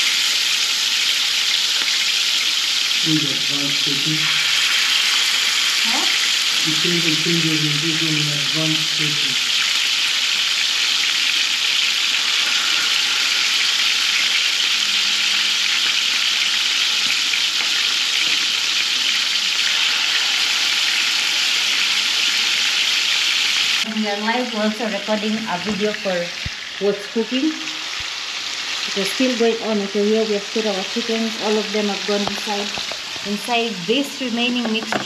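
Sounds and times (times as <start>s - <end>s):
chicken sizzling in a pan: 0.0s - 35.0s.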